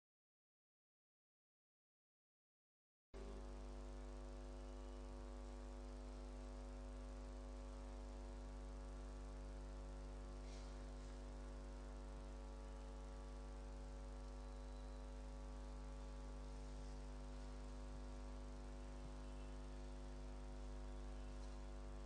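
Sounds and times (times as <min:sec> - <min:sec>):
electrical mains hum: 0:03.2 - 0:22.0.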